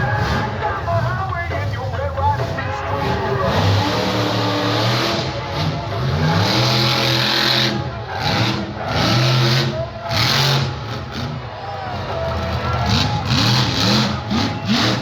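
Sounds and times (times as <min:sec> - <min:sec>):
truck engine revving hard: 0:00.0 - 0:01.5, 0:02.2 - 0:15.0.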